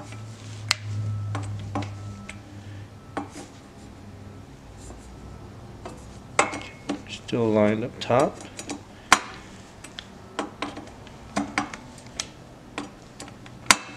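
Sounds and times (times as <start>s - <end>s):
low hum: 0.0s - 13.5s.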